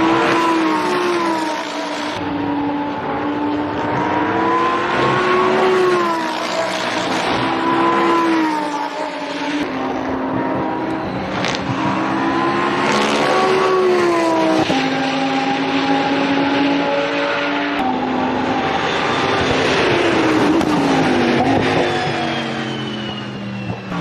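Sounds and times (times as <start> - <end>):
racing engine under load: 0.0 - 24.0.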